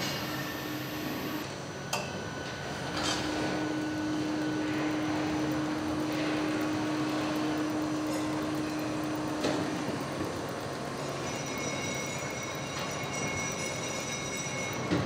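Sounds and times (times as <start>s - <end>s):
factory machine hum: 0.0s - 15.0s.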